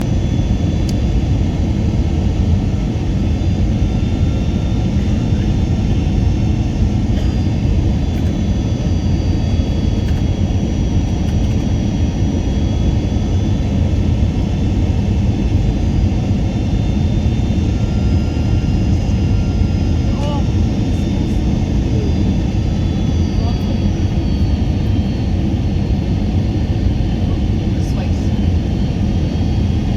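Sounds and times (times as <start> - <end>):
airliner engines rumbling: 0.0 - 29.9.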